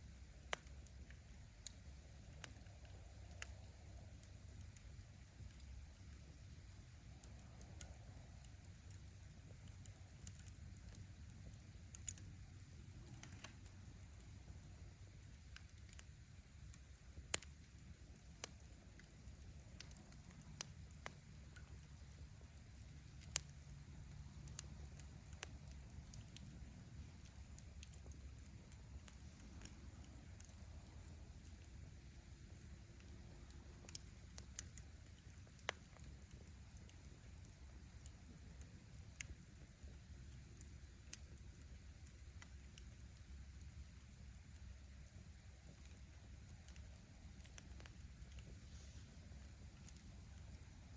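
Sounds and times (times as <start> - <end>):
low steady fire rumble: 0.0 - 50.9
wood fire crackling: 0.0 - 50.9.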